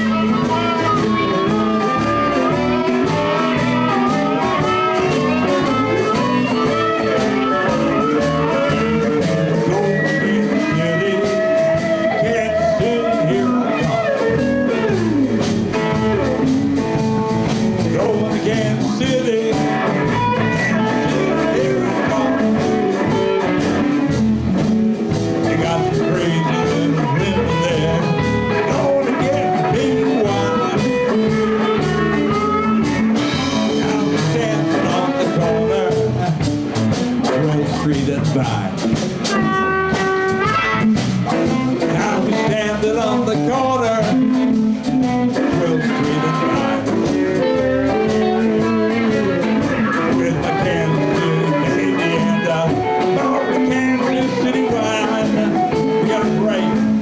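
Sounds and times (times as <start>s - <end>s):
blues band playing: 0.0s - 57.0s.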